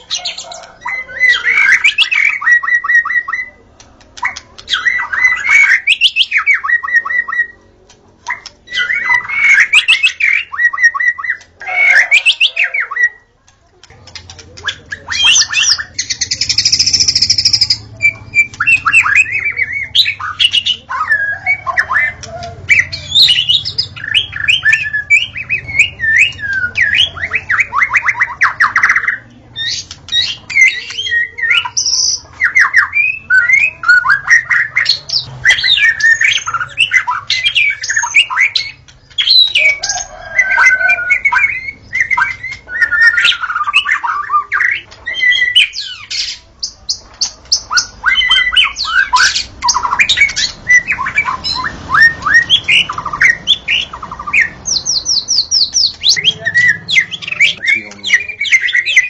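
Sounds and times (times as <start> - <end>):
songbird singing whistles and trills: 0.0 - 3.6, 4.2 - 7.6, 8.2 - 13.2, 14.6 - 59.0.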